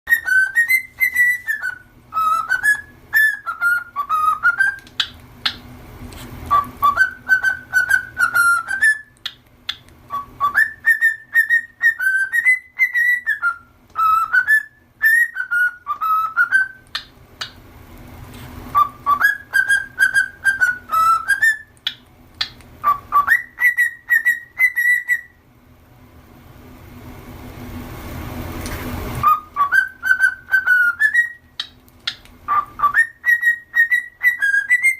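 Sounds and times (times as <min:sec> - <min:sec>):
cockatiel whistling: 0:00.1 - 0:05.6, 0:06.5 - 0:17.6, 0:18.7 - 0:25.4, 0:29.2 - 0:34.9.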